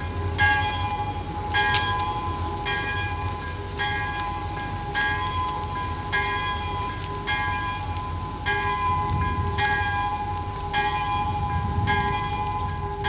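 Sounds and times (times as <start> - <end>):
church bell tolling slowly: 0.0 - 13.0.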